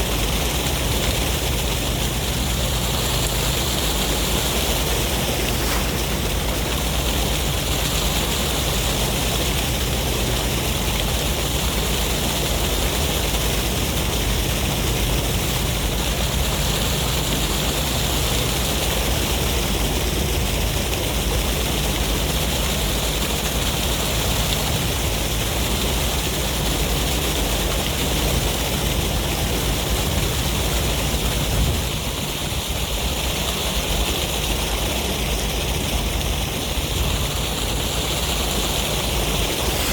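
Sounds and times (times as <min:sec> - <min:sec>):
sea waves: 0:00.0 - 0:39.9
wind: 0:00.0 - 0:39.9.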